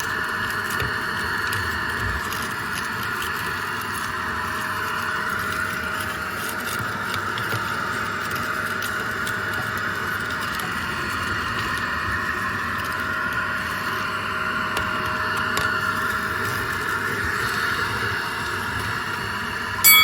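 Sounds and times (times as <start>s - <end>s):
vacuum cleaner motor whirring: 0.0s - 19.8s.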